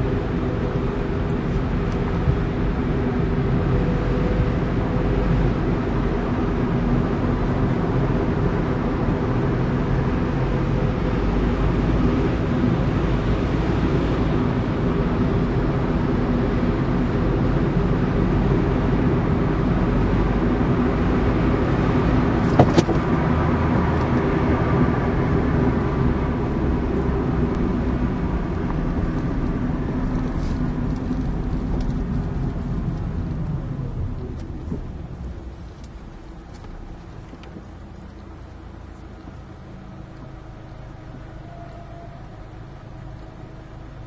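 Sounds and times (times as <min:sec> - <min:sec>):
car road and engine noise: 0:00.0 - 0:44.0.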